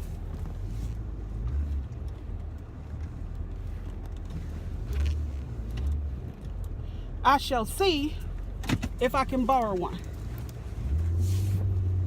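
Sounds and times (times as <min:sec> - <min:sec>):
car engine rumble from cabin: 0:00.0 - 0:12.0.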